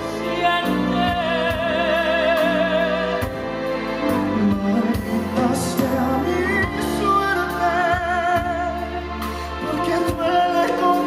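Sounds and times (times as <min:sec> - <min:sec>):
man singing: 0:00.0 - 0:03.6, 0:04.3 - 0:11.0
live band playing: 0:00.0 - 0:11.0.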